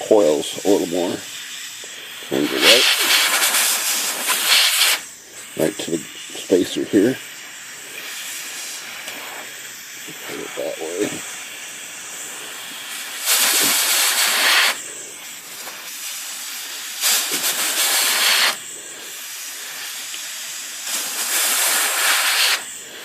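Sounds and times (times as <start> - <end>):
compressed air hissing: 0.0 - 23.0
faint steady hiss: 0.0 - 23.0.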